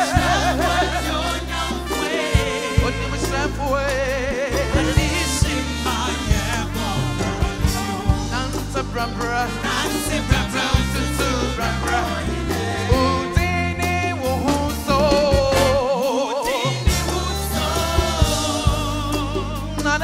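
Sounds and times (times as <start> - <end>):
bass line: 0.0 - 15.9, 16.8 - 20.0
person singing with vibrato: 0.0 - 20.0.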